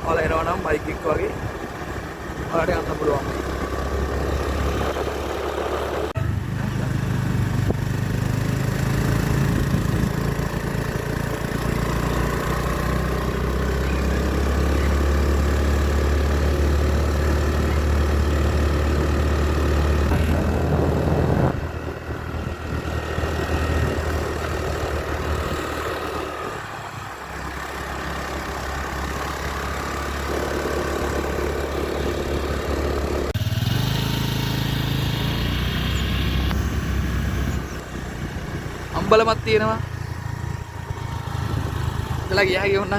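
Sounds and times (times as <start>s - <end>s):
road noise: 0.0s - 42.9s
vehicle engine hum: 0.0s - 42.9s.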